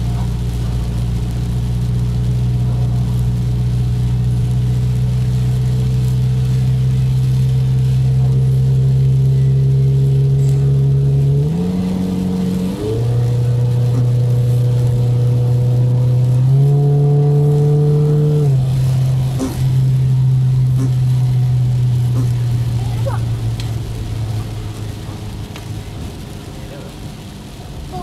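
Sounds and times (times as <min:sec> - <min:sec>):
car engine droning in cabin: 0:00.0 - 0:28.0.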